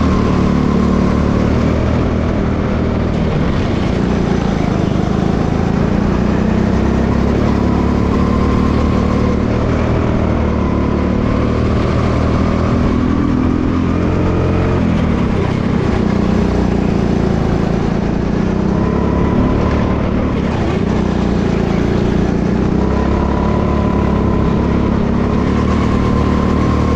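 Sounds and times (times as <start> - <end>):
kart engine running hard: 0.0 - 26.9.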